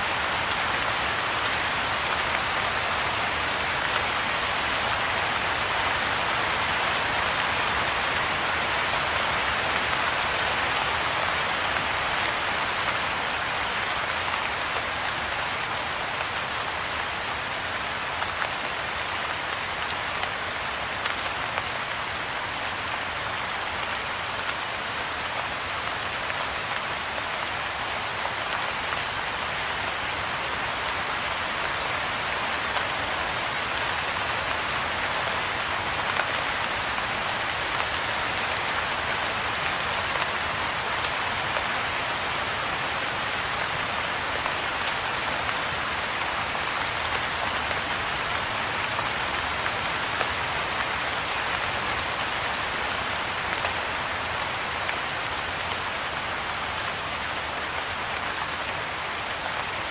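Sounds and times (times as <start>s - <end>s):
soft rain on pond and foliage: 0.0s - 59.9s.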